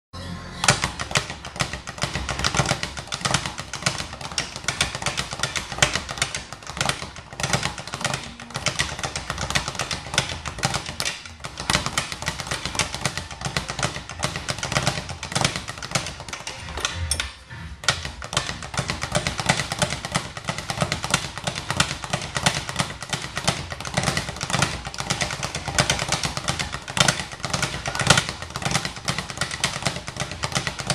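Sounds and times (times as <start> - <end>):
speed bag rapid knocks: 0.6 - 30.9.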